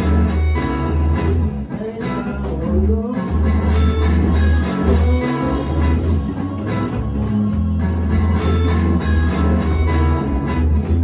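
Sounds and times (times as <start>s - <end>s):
heavy bass line: 0.0s - 11.0s
live rock music: 0.0s - 11.0s.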